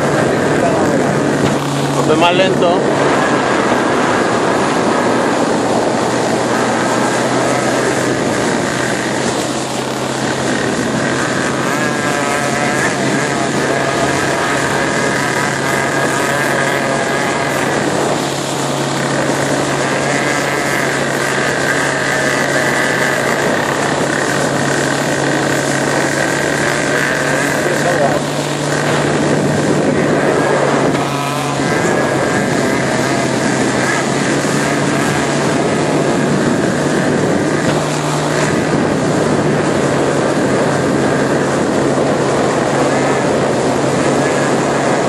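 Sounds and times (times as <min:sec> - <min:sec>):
motorboat engine running: 0:00.0 - 0:45.0
wake spraying: 0:00.0 - 0:45.0
water rushing along hull: 0:00.0 - 0:45.0.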